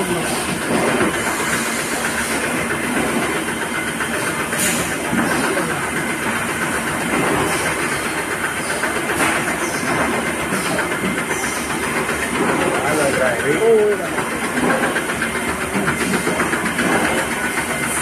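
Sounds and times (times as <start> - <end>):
loud machinery noise: 0.0 - 18.0.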